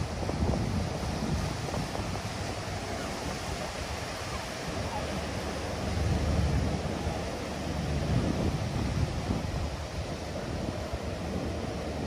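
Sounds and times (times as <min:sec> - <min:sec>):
rushing water: 0:00.0 - 0:12.0
wind buffeting microphone: 0:00.0 - 0:12.0.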